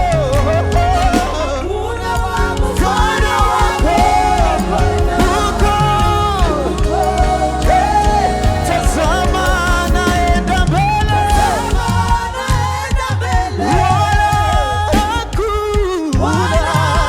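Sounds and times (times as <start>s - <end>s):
bass: 0.0s - 17.0s
drums: 0.0s - 17.0s
person singing: 0.0s - 17.0s.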